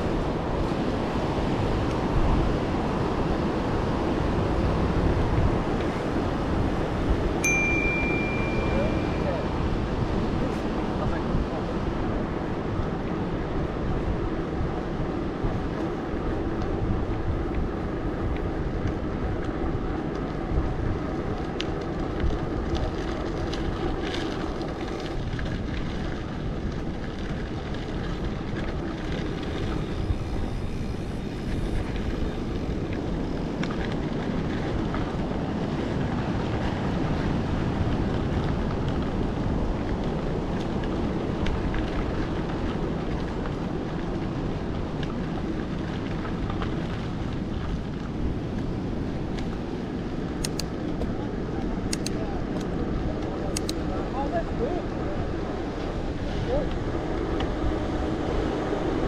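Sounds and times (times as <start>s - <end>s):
bike tyres rolling: 0.0s - 8.3s, 9.4s - 59.0s
wind on microphone: 0.0s - 59.0s.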